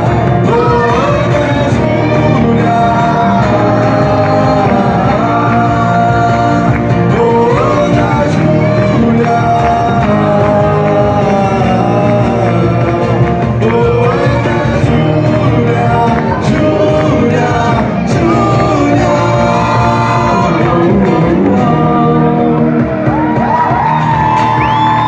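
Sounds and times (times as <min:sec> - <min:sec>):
live band playing: 0:00.0 - 0:25.0
person singing: 0:00.0 - 0:25.0.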